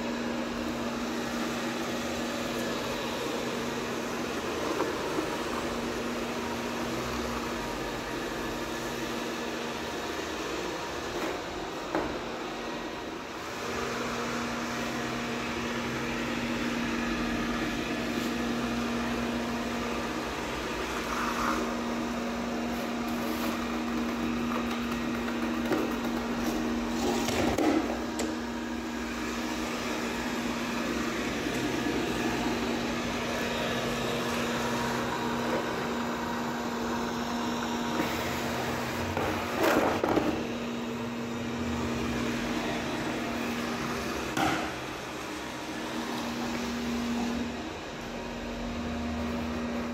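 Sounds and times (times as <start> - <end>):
robot vacuum cleaner humming: 0.0 - 49.9.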